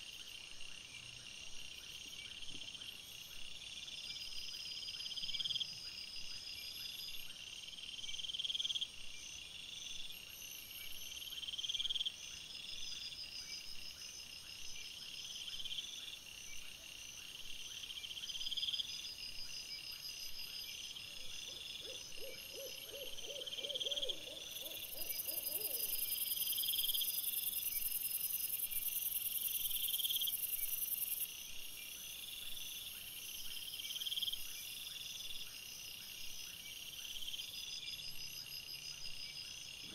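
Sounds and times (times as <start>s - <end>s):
continuous insect trill: 0.0s - 39.9s
crickets chirping: 0.0s - 39.9s.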